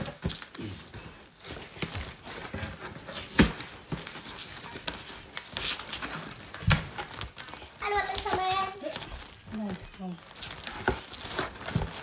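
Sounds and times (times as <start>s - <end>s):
cardboard and plastic rustling: 0.0s - 12.0s.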